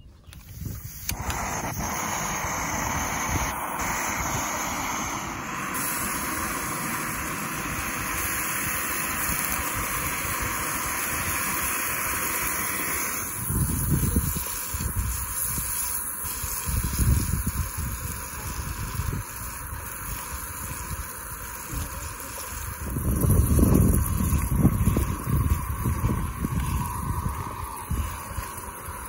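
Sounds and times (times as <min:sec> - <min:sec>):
wind buffeting microphone: 0:00.1 - 0:15.9, 0:16.5 - 0:21.8, 0:22.5 - 0:29.0
gas stove hissing: 0:00.3 - 0:29.0
bacon sizzling in pan: 0:01.2 - 0:29.0.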